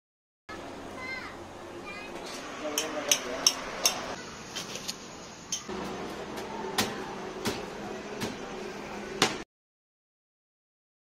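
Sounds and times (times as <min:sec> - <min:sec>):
steady background hum: 0:00.5 - 0:09.4.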